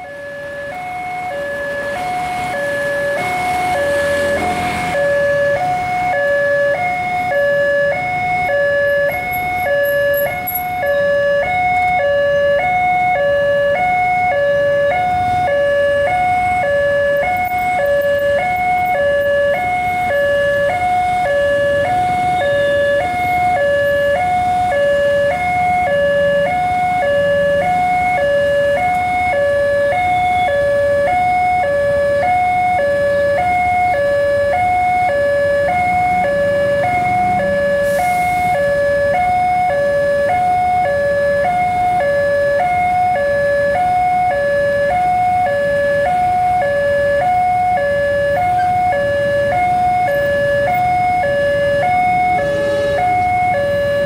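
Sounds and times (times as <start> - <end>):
two-tone warning siren: 0.0 - 54.0.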